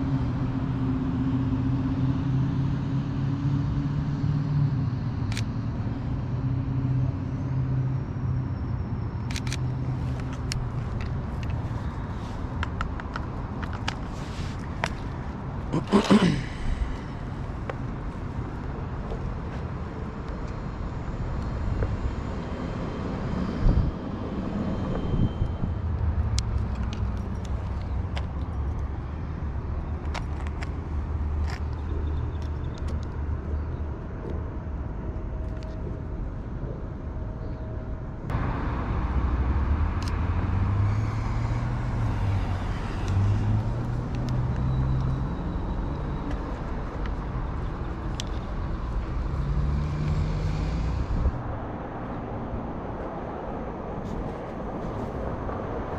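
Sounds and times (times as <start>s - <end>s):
traffic rumble: 0.0s - 55.9s.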